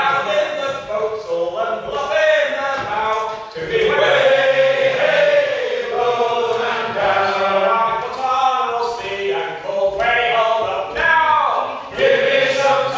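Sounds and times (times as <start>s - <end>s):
men singing a sea shanty: 0.0s - 12.9s.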